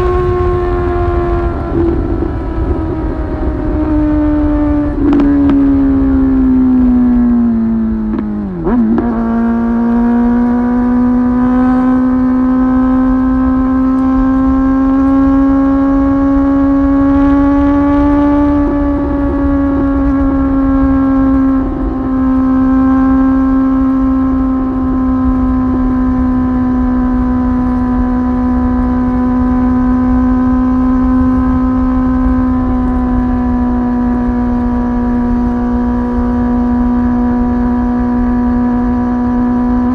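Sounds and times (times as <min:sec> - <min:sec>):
low wind rumble: 0:00.0 - 0:39.9
motorcycle engine high-pitched drone: 0:00.0 - 0:39.9.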